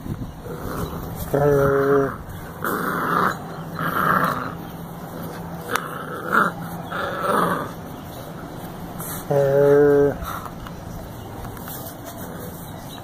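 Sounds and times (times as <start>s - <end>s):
puppy growling: 0.4s - 11.0s.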